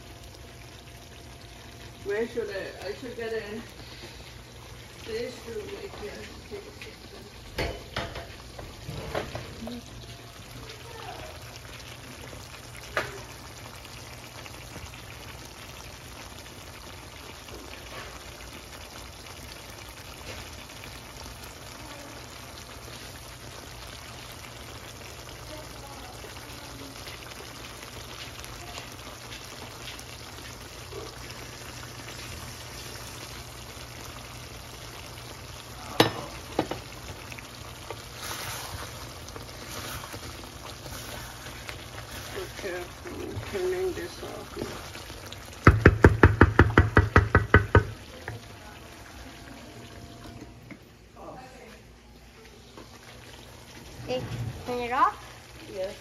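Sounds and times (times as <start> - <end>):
food sizzling in pan: 0.0 - 56.0.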